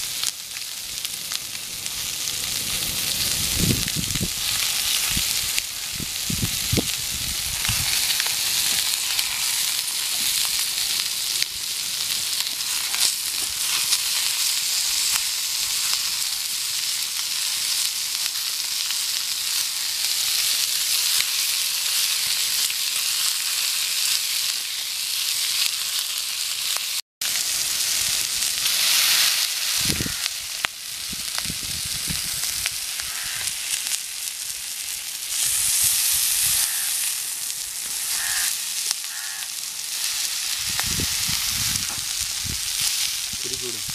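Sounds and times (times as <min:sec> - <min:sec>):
fish sizzling in oil: 0:00.0 - 0:43.9.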